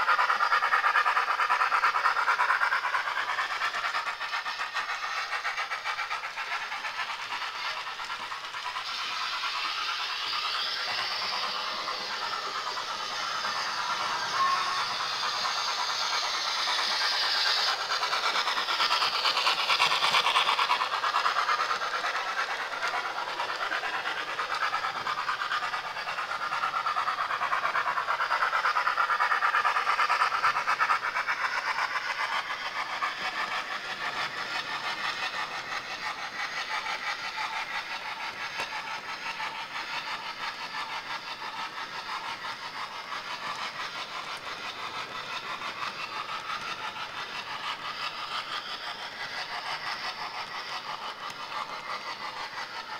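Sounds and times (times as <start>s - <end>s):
thin locomotive engine sound: 0.0s - 52.9s.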